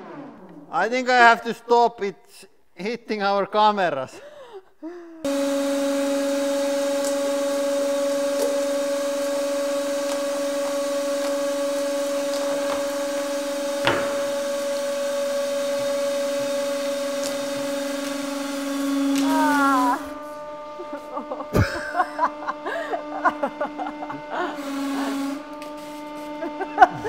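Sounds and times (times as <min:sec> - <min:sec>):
hydraulic press humming: 0:00.0 - 0:00.9, 0:05.2 - 0:27.0.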